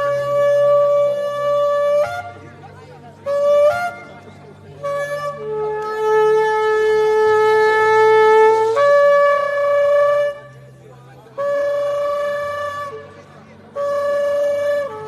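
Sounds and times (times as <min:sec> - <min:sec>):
shofar blasts: 0:00.0 - 0:02.5, 0:03.2 - 0:04.1, 0:04.8 - 0:15.0.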